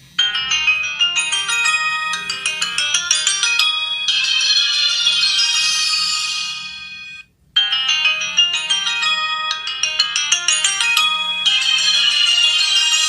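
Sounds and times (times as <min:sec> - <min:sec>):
phone ringtone melody: 0:00.0 - 0:13.0
ringtone of short bright notes: 0:00.2 - 0:13.0.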